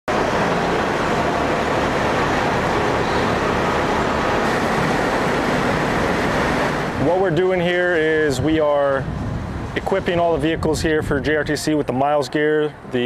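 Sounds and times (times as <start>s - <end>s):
heavy truck diesel engines: 0.1s - 13.0s.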